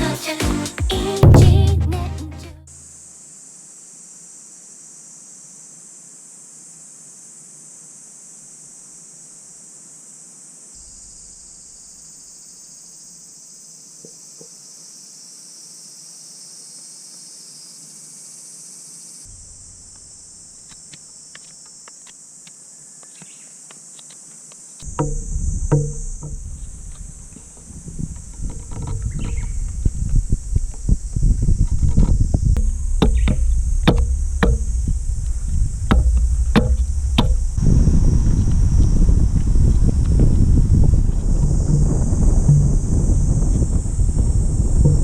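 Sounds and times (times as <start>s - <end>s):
insects chorus: 2.9s - 45.0s.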